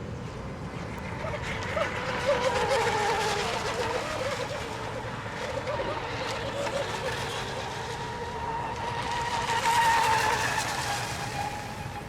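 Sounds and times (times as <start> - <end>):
model boat engines whining: 0.4 - 12.0.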